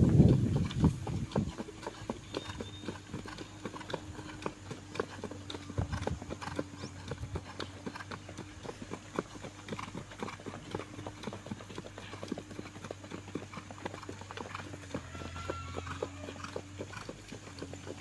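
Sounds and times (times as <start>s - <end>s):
horse hooves on dirt: 0.0s - 18.0s.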